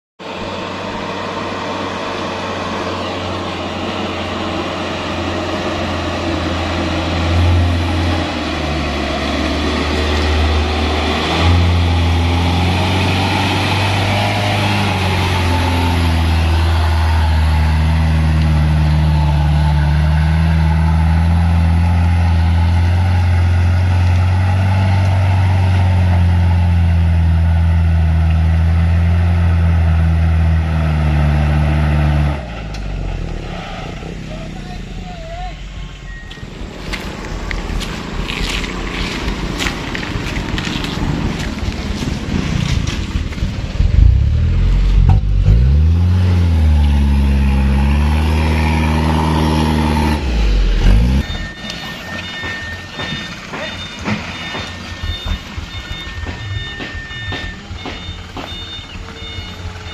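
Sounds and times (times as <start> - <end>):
truck diesel engine working hard: 0.2 - 59.9.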